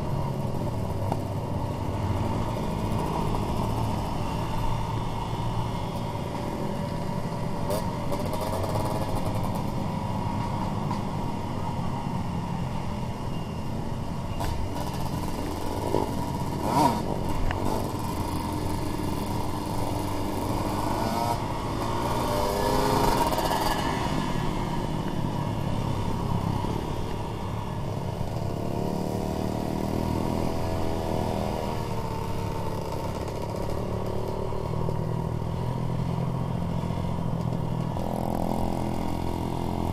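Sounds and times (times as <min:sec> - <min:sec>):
dirt bike engines: 0:00.0 - 0:39.9.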